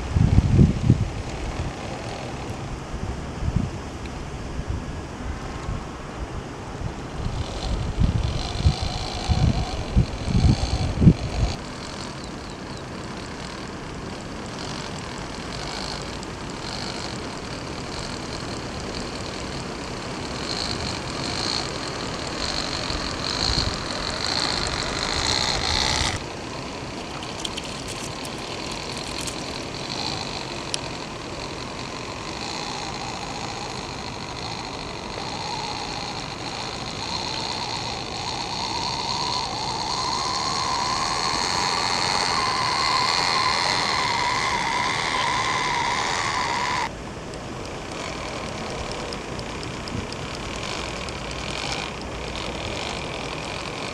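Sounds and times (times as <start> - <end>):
small electric motor whining: 0.0 - 4.1, 5.5 - 53.9.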